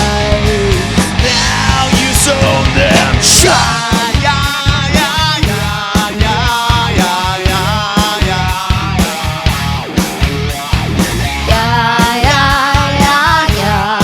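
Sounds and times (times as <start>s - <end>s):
bass guitar: 0.0s - 14.0s
drums: 0.0s - 14.0s.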